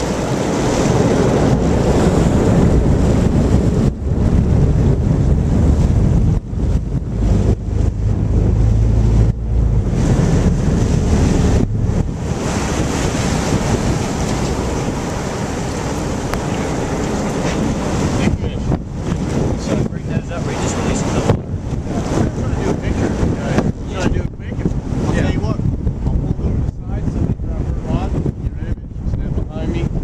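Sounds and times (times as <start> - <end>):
water churning in boat wake: 0.0 - 30.0
wind buffeting microphone: 0.0 - 30.0.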